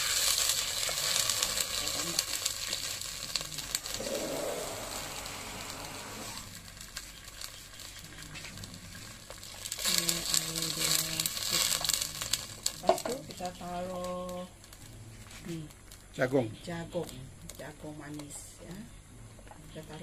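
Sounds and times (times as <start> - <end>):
food sizzling in a pot: 0.0 - 19.0
crackling and rustling: 0.0 - 20.0.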